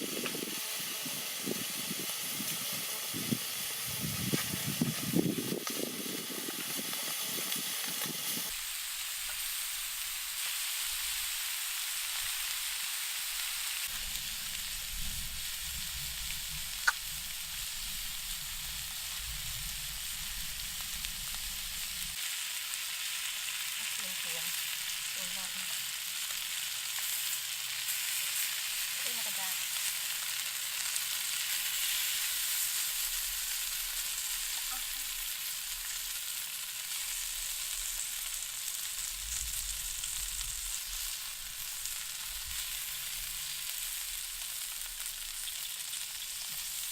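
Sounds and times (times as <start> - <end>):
kidneys sizzling in a pan: 0.0 - 46.9.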